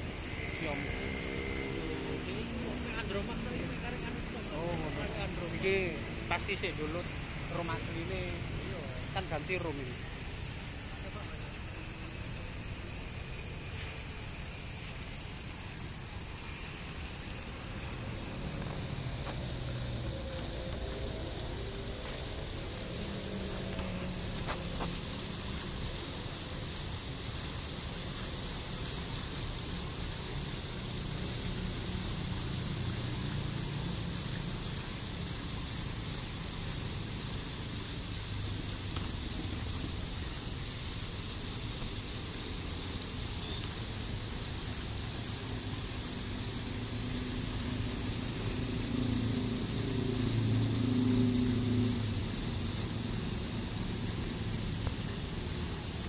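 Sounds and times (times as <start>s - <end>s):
fountain water splashing: 0.0s - 56.0s
water spilling over ledge: 0.0s - 56.0s.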